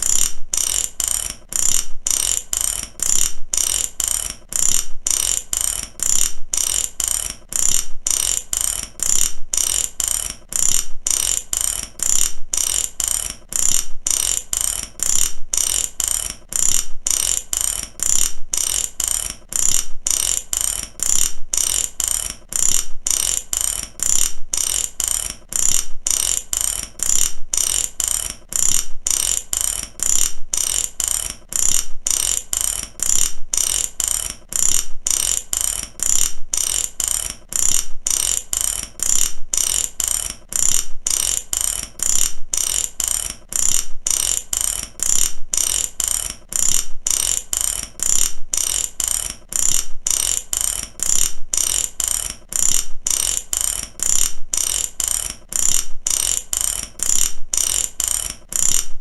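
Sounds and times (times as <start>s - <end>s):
mechanical ratchet clicking: 0.0s - 59.0s.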